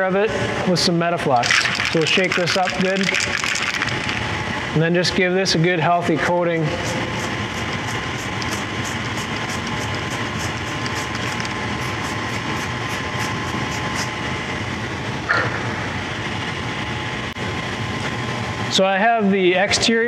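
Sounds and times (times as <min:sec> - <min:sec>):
shop noise hum: 0:00.0 - 0:20.0.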